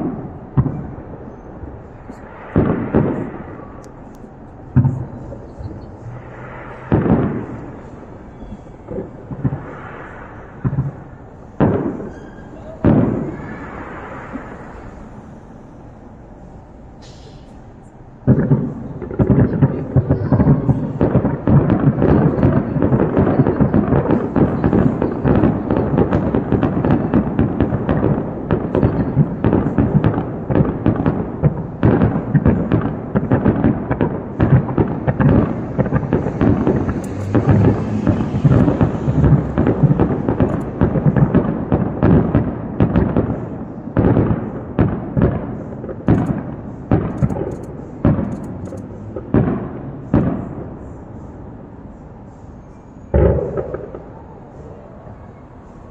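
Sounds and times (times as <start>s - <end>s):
firework bursts and booms: 0.0s - 51.7s, 53.1s - 54.6s
crackling hiss of fireworks: 0.0s - 55.9s.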